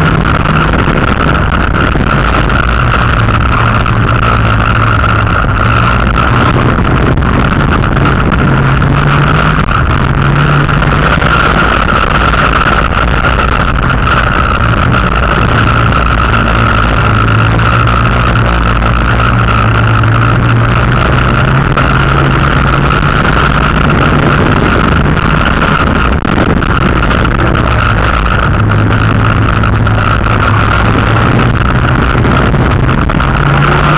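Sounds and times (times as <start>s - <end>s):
race car engine revving: 0.0s - 33.9s.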